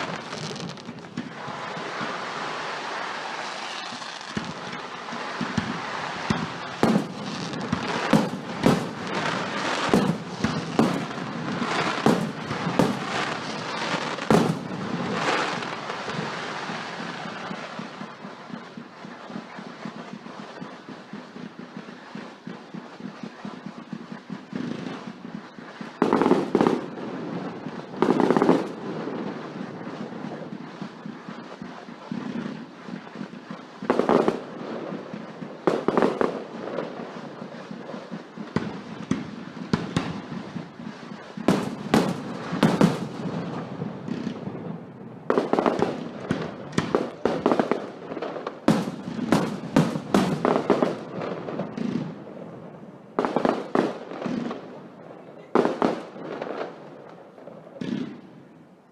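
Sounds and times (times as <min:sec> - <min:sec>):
fireworks banging and crackling: 0:00.0 - 0:58.9.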